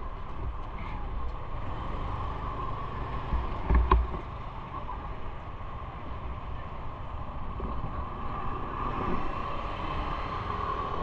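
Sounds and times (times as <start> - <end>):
bike riding road noise: 0.0 - 11.0.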